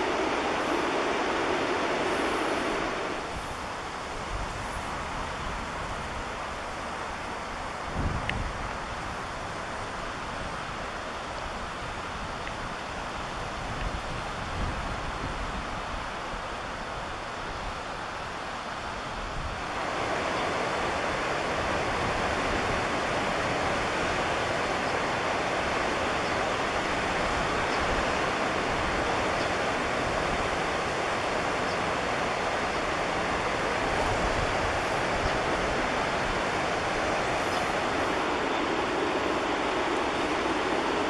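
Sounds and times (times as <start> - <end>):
river rapids rushing: 0.0 - 41.0.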